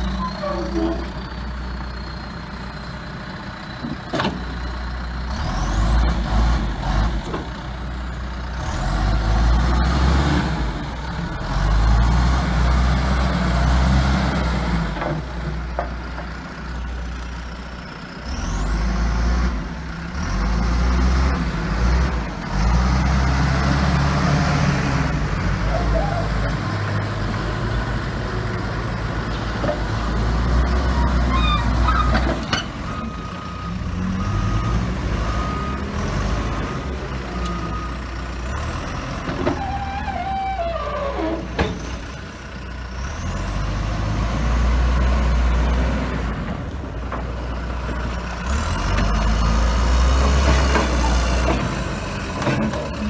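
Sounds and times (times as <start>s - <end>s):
backhoe diesel engine running: 0.0s - 53.0s.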